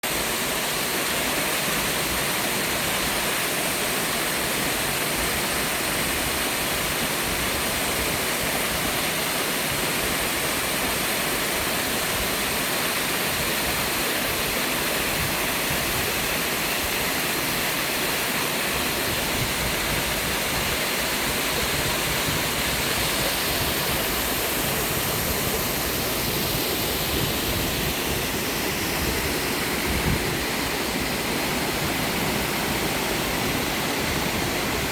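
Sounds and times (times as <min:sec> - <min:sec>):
waterfall pouring: 0:00.0 - 0:34.9.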